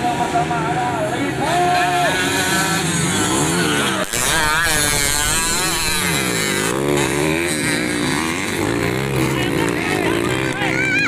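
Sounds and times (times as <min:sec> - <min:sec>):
racing motorcycles revving: 0:00.0 - 0:11.0.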